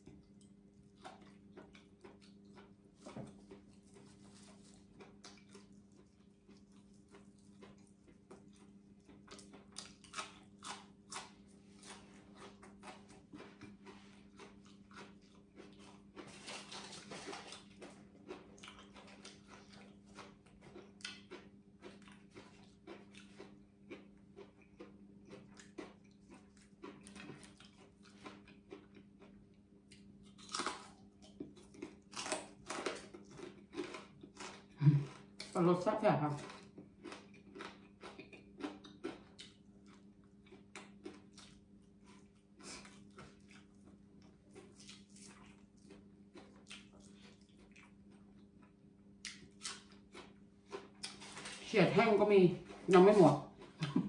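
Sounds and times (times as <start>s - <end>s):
chewing and crunching fried fish: 0.0s - 54.0s.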